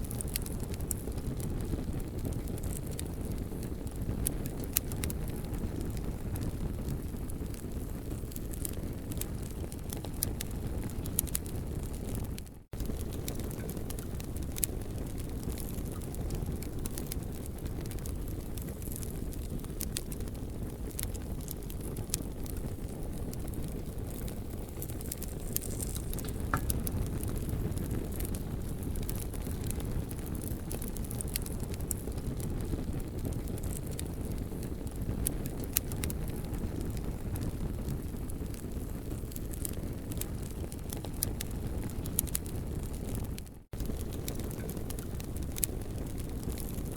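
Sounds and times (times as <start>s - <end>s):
burning wood popping: 0.0s - 46.9s
campfire crackling: 0.0s - 46.9s.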